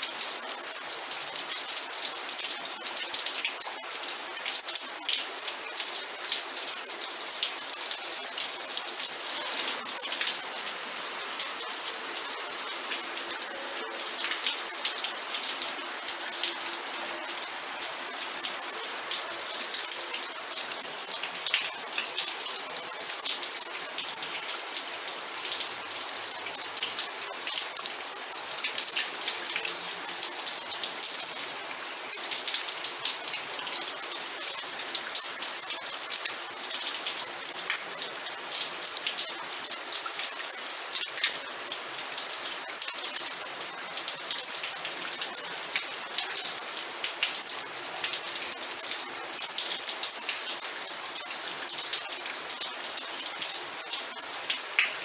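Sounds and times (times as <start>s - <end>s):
rain drops pattering: 0.0s - 55.0s.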